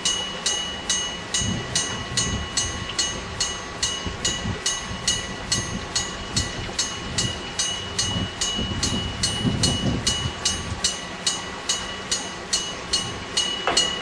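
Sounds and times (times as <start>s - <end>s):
railroad crossing bell ringing: 0.0s - 14.0s
train rumbling past: 0.0s - 14.0s.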